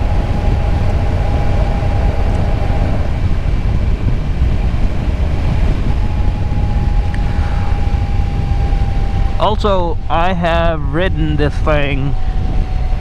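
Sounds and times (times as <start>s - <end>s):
motorcycle engine and wind rumble: 0.0s - 13.0s
thin steady whine: 0.0s - 13.0s.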